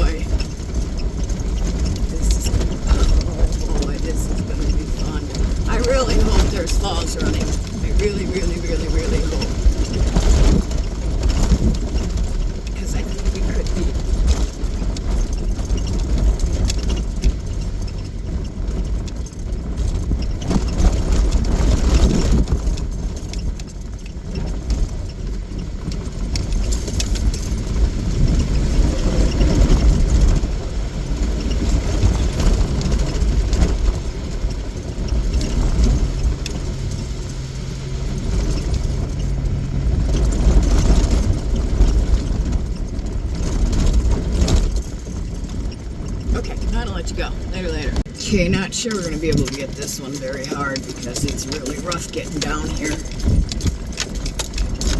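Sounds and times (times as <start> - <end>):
loose things rattling in cab: 0.0 - 54.9
off-road vehicle engine running: 0.0 - 54.9.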